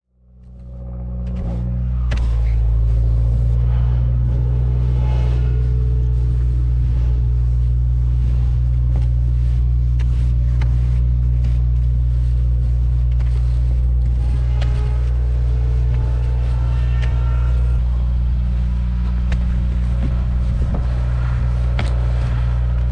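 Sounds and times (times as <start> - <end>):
car engine and road drone: 0.1 - 22.9.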